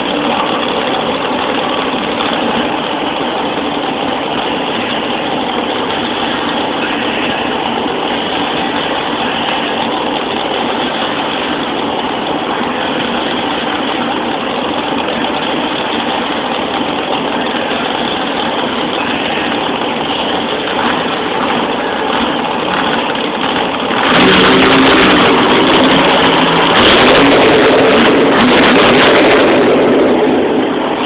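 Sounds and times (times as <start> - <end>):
monster truck engine idling: 0.0 - 31.0.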